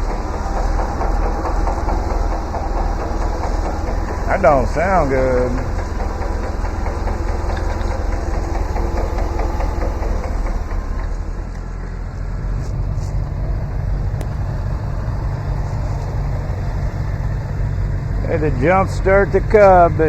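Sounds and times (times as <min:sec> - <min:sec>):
light fast ticking: 0:00.0 - 0:11.8, 0:12.8 - 0:20.0
tractor engine idling: 0:00.0 - 0:20.0.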